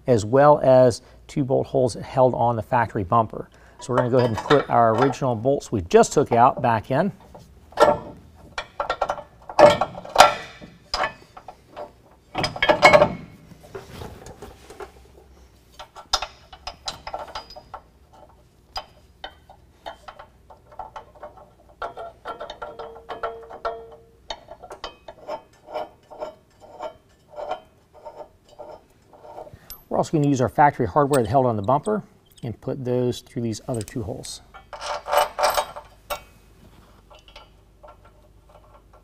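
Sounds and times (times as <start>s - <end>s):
metal bolts clinking on steel: 3.8s - 13.4s, 15.7s - 32.6s, 33.6s - 36.4s, 37.0s - 39.0s.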